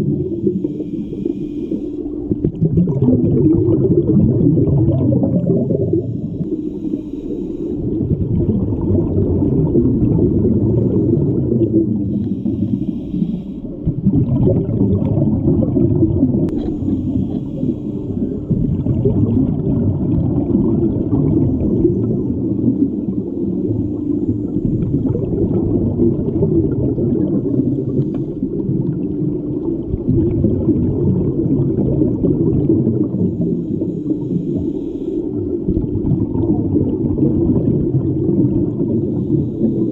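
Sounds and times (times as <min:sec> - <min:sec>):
underwater bubbles and water rumble: 0:00.0 - 0:39.9.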